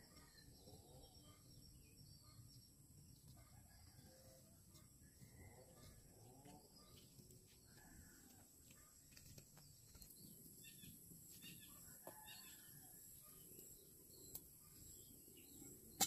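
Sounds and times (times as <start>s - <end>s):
soft bird chirps: 0.0s - 16.0s.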